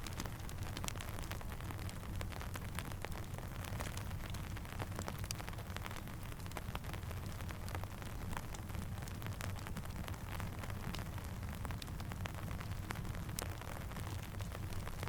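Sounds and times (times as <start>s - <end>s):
crackling campfire: 0.0s - 15.0s
steady rain: 0.0s - 15.0s.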